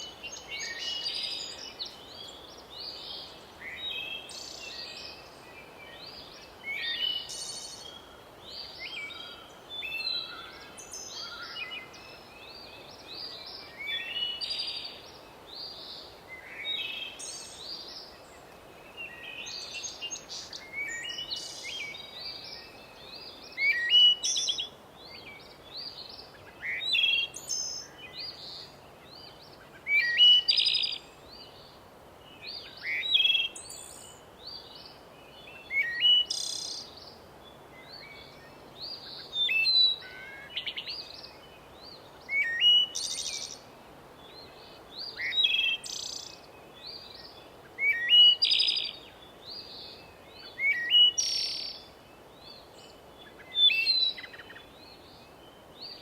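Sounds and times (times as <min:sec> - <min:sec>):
faint steady hiss: 0:00.0 - 0:56.0
songbirds singing: 0:00.0 - 0:56.0.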